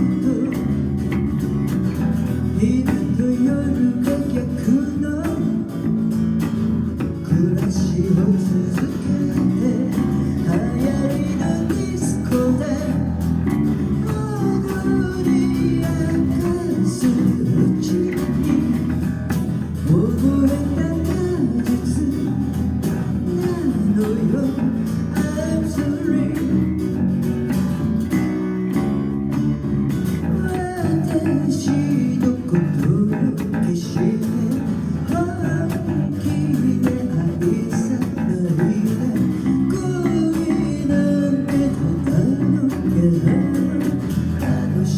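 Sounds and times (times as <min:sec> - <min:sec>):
bass guitar line: 0:00.0 - 0:44.9
guitar: 0:00.0 - 0:44.9.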